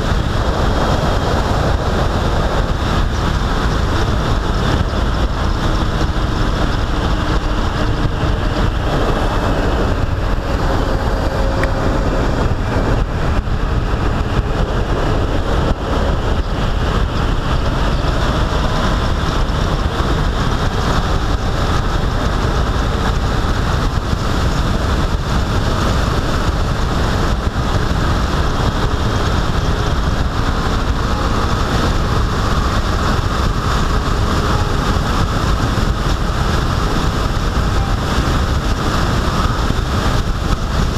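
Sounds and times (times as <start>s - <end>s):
road and engine noise: 0.0s - 40.9s
wind rushing on microphone: 0.0s - 40.9s.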